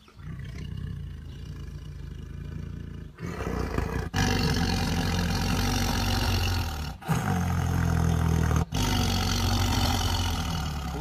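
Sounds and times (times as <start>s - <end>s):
tiger growling: 0.0s - 11.0s.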